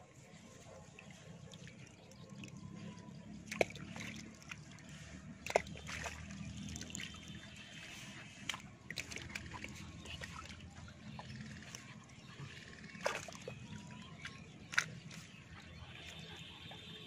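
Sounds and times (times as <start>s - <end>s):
water trickling and sloshing: 0.0s - 17.0s.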